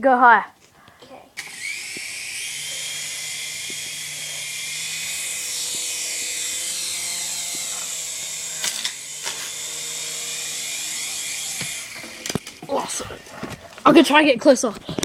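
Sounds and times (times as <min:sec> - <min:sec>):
toy helicopter motor whining: 0:01.4 - 0:13.7.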